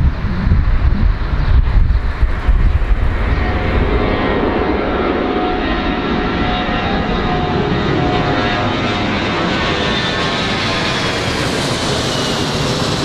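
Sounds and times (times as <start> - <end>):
high engine whine: 0.0 - 13.0
jet engines roaring: 0.0 - 13.0.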